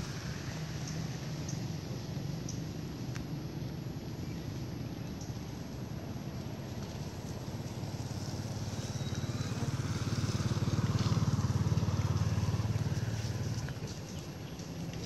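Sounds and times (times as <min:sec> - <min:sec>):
vehicle engine passing by: 0:00.0 - 0:03.1, 0:04.3 - 0:15.0.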